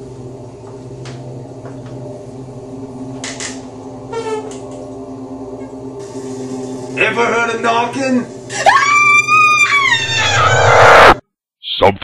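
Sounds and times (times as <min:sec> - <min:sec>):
steady low drone: 0:00.0 - 0:11.2.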